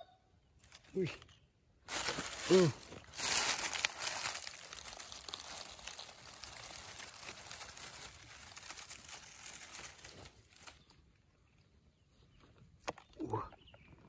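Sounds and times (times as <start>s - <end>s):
dry grass and leaves rustling: 0.5s - 12.4s.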